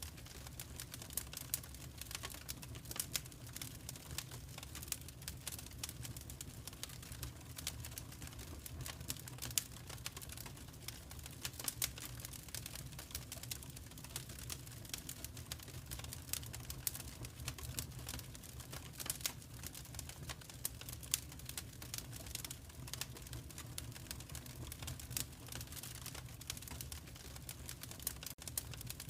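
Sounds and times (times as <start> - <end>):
low rumble of burning: 0.0 - 29.0
wood fire crackling and popping: 0.0 - 29.0.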